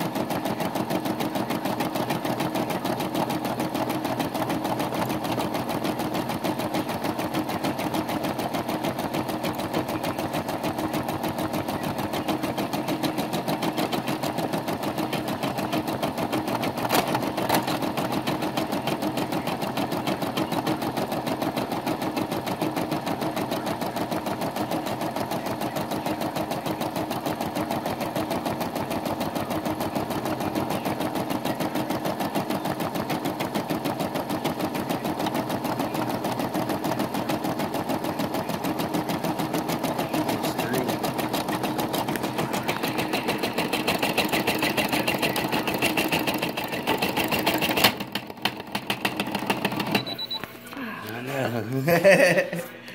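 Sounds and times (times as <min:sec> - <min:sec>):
embroidery machine stitching: 0:00.0 - 0:50.4.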